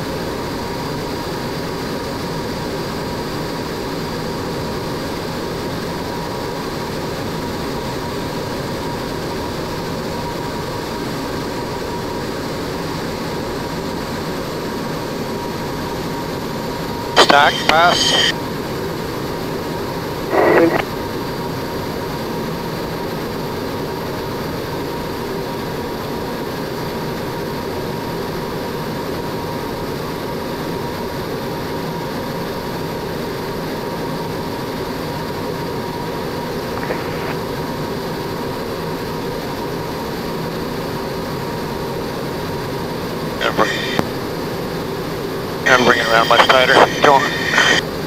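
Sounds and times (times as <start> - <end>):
jet engine drone: 0.0 - 48.0.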